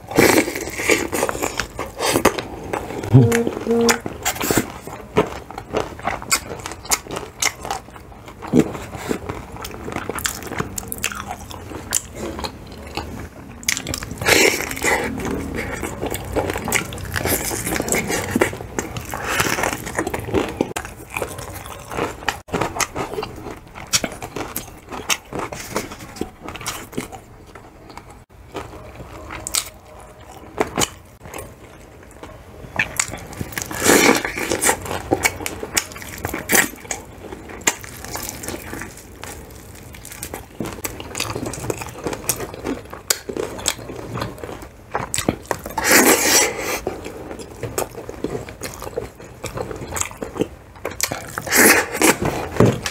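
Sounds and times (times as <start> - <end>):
crunching bites of fried chicken: 0.0 - 27.2, 32.8 - 52.9
chewing: 0.0 - 52.9.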